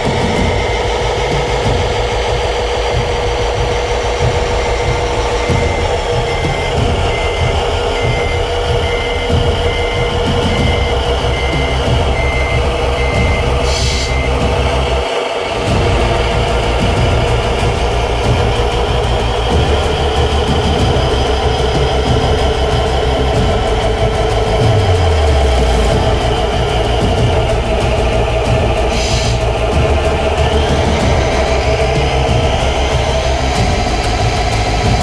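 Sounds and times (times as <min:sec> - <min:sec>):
diesel engine hum: 0:00.0 - 0:35.0
reversing beeper: 0:00.0 - 0:35.0.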